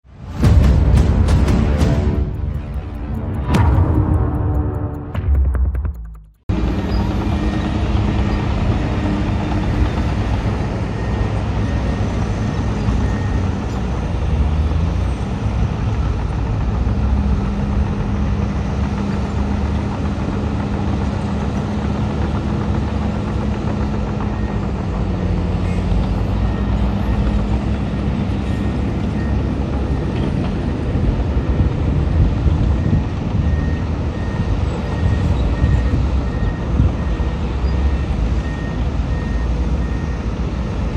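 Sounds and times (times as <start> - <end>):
heavy diesel machinery droning: 0.0 - 40.9.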